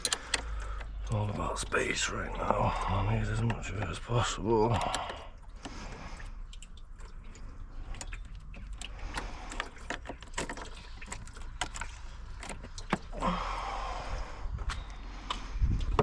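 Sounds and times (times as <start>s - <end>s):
clatter of car parts and tools: 0.0s - 13.4s, 14.6s - 16.0s.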